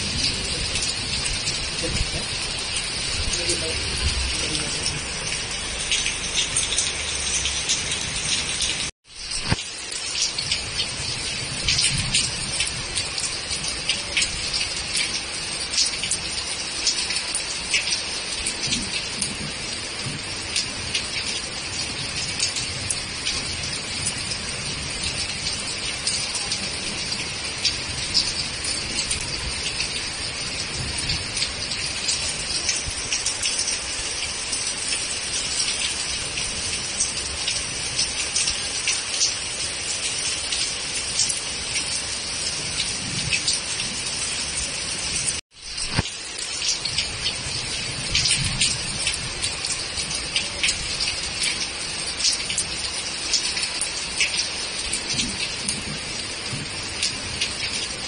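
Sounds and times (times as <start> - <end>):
heavy rain pouring: 0.0 - 58.0
raindrops hitting surfaces: 0.0 - 58.0.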